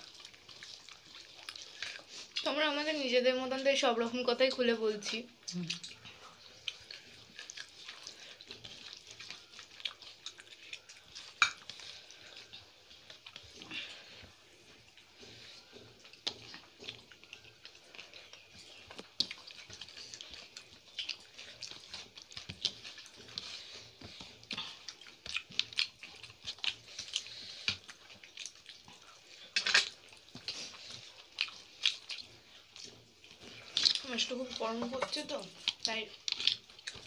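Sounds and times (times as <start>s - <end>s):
wet chewing and smacking: 0.0s - 37.0s.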